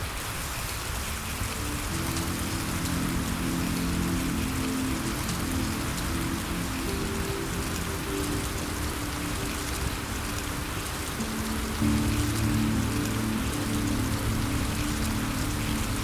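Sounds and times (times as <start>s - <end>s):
steady rain: 0.0s - 16.0s
soft music of low held notes: 1.2s - 16.0s.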